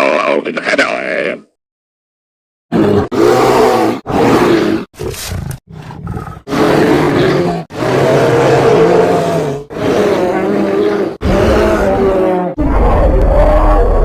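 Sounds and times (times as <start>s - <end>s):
creature roaring: 2.7s - 14.0s.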